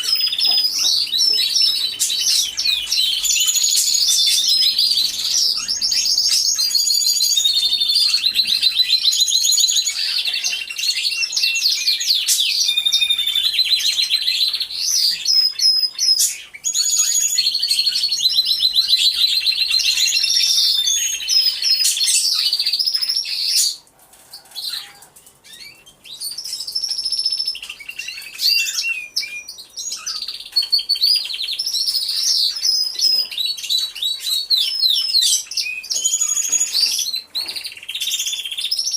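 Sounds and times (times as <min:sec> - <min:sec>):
canaries singing: 0:00.0 - 0:38.9.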